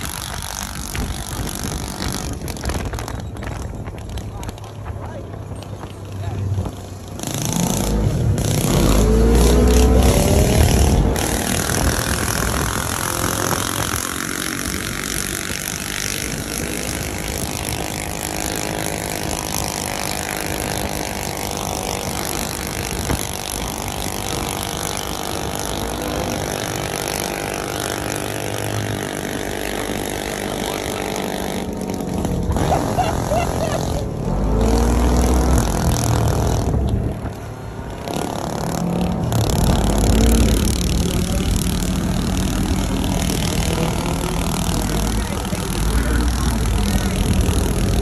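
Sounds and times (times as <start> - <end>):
small engine accelerating and droning: 0.0 - 4.7, 6.6 - 48.0
wind rumble on microphone: 0.0 - 48.0.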